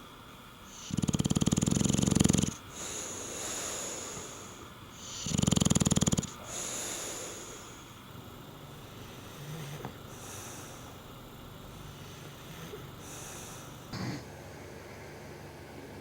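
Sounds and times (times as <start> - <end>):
dog snoring: 0.7 - 14.4.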